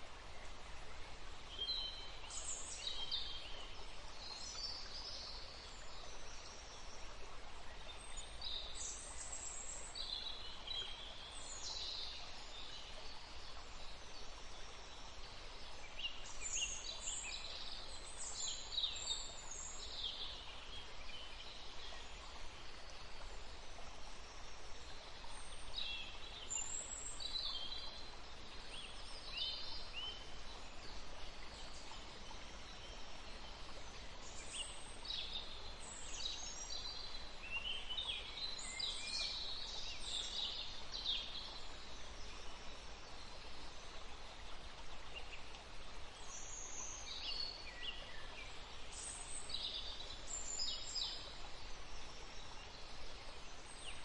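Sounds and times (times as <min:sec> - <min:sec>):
forest stream rushing: 0:00.0 - 0:54.0.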